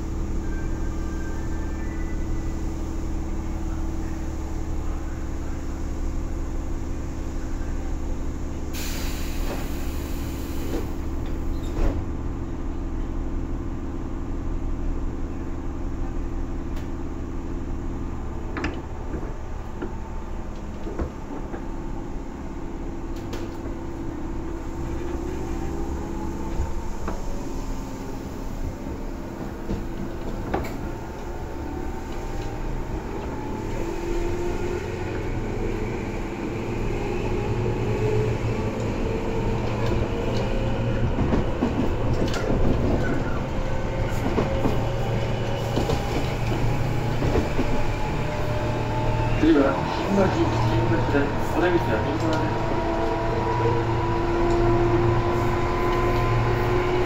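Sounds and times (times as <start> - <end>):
steady train hum: 0.0 - 57.0
train motor and gear whine: 0.0 - 57.0.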